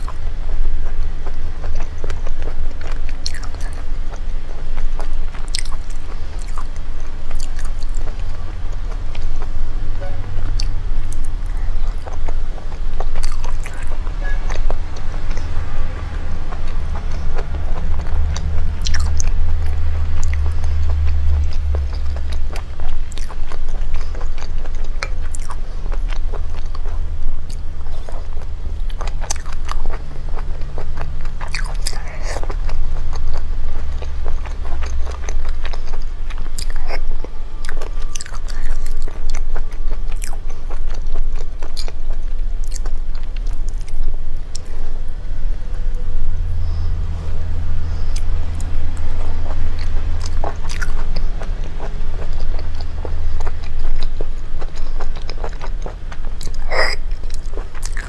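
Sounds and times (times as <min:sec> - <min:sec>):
person chewing food: 0:00.0 - 0:58.0
steady low hum: 0:00.0 - 0:58.0.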